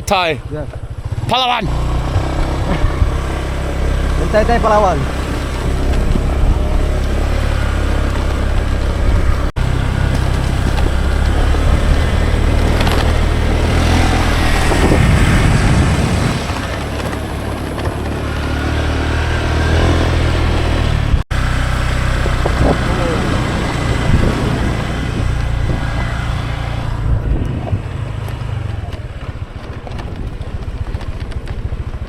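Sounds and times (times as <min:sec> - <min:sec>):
motorcycle engine running: 0:00.0 - 0:32.0
rushing wind: 0:00.0 - 0:32.0.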